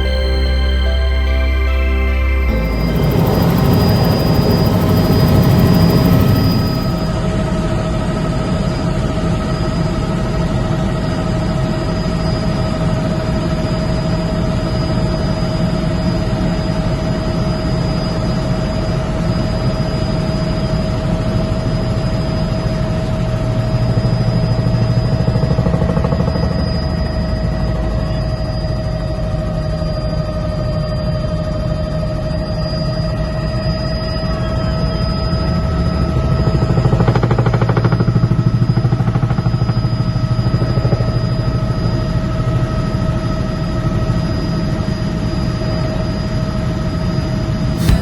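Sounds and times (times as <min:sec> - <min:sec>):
helicopter engine and rotors: 0:00.0 - 0:48.0.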